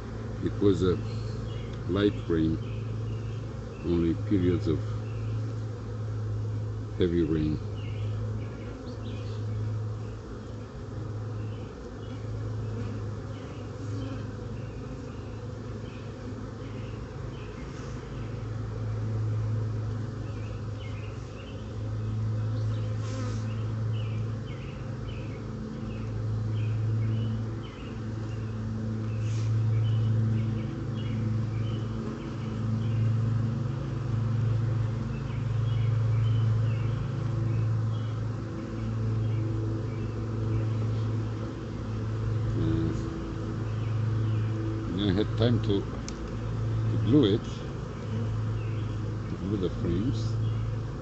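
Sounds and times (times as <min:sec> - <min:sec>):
honeybees buzzing: 0:00.0 - 0:51.0.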